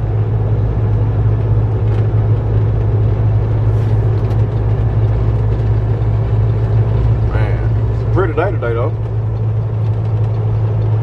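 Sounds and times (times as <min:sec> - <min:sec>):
diesel truck engine drone: 0:00.0 - 0:11.0
road noise: 0:00.0 - 0:11.0.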